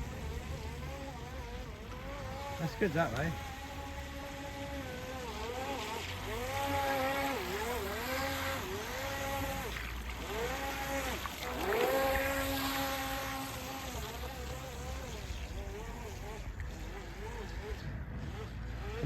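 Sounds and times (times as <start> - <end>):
electric motor whine of boat: 0.0 - 19.0.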